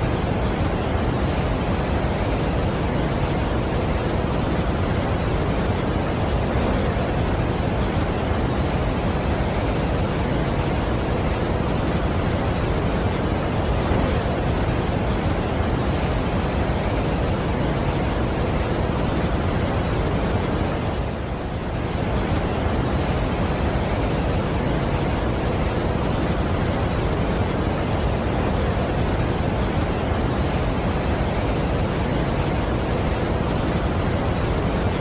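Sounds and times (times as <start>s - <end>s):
waterfall roar: 0.0s - 35.0s.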